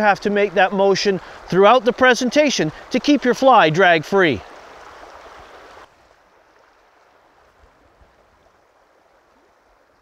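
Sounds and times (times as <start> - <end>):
river running over rocks: 0.0 - 10.0.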